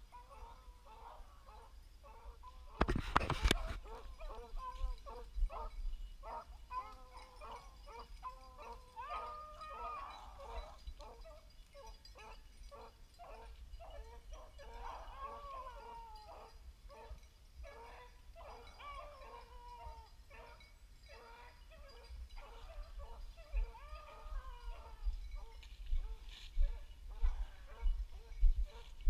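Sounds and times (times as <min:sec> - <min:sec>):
dogs baying: 0:00.0 - 0:29.0.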